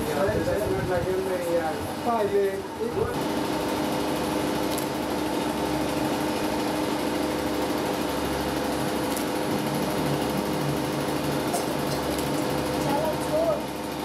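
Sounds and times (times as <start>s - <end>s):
machine hum: 1.8s - 14.0s.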